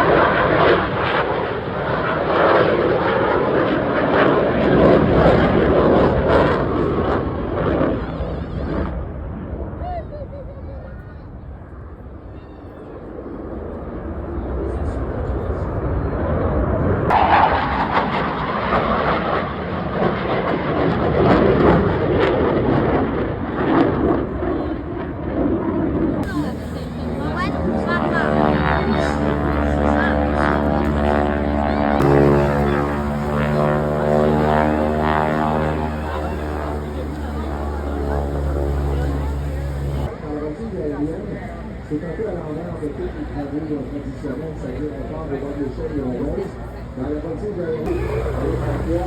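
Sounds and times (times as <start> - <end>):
airplane engine rushing: 0.0 - 9.8, 11.7 - 49.0
jet aircraft roaring overhead: 0.0 - 49.0.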